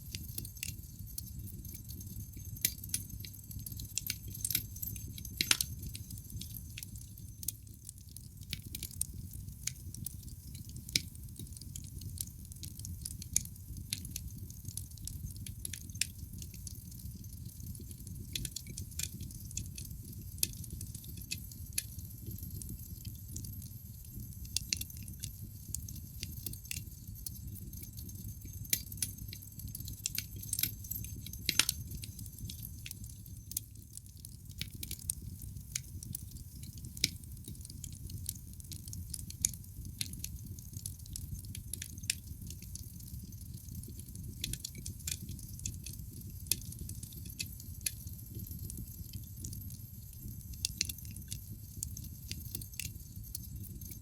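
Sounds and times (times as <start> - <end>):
wood fire crackling and popping: 0.0 - 54.0
low rumble of flames: 0.2 - 54.0.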